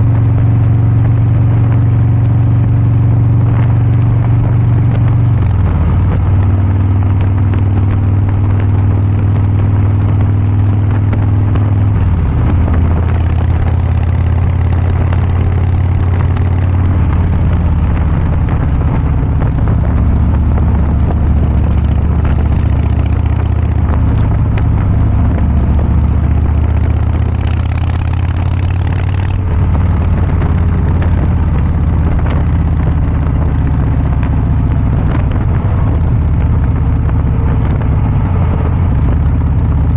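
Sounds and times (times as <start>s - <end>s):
motorcycle engine running loudly: 0.0s - 39.9s.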